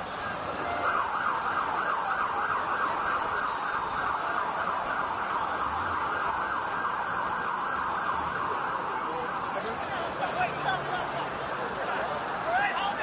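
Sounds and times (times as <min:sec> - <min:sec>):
emergency siren warbling: 0:00.3 - 0:13.0.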